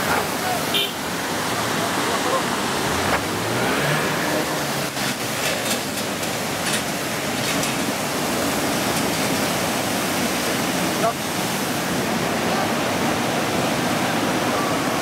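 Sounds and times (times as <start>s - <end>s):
flood water roaring: 0.0s - 15.0s.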